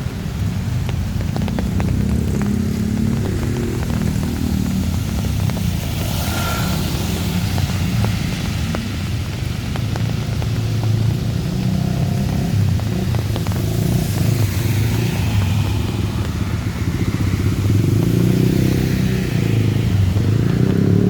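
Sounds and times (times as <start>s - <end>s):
heavy rain hissing: 0.0s - 21.0s
motorcycle engines running: 0.0s - 21.0s.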